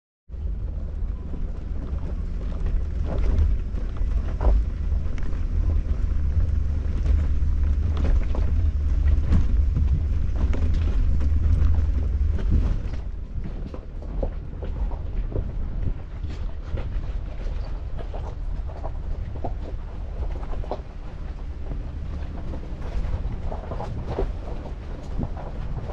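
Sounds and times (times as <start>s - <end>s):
vehicle rumble: 0.3s - 25.9s
wind buffeting microphone: 0.3s - 25.9s
rocks crunching under tyres: 0.4s - 25.9s.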